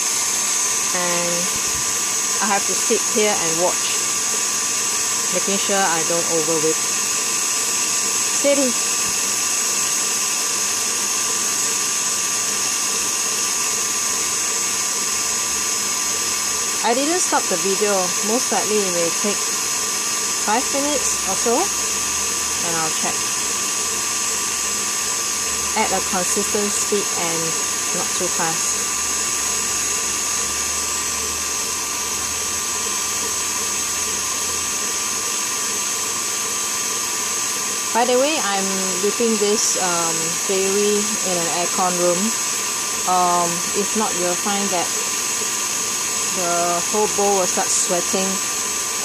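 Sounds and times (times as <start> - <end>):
stand mixer whisking cream: 0.0 - 49.0.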